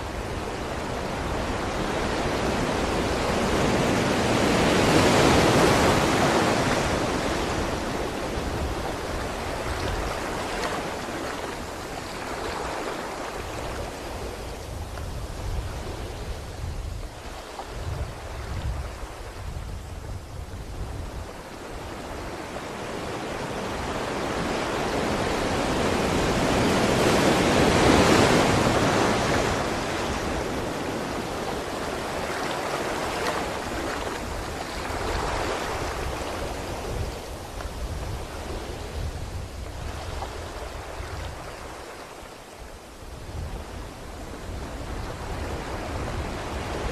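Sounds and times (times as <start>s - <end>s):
sea water rushing: 0.0s - 19.4s, 21.2s - 46.9s.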